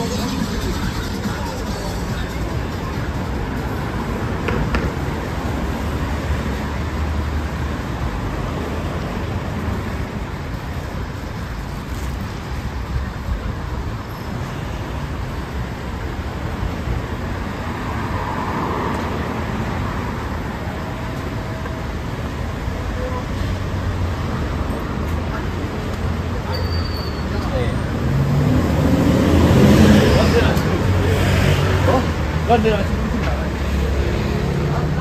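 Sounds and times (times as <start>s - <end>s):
cars passing on city street: 0.0s - 35.0s.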